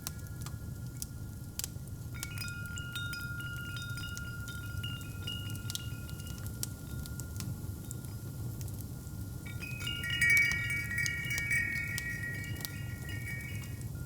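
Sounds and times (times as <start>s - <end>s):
fire crackling: 0.0s - 14.0s
wind chimes tinkling: 0.0s - 14.0s.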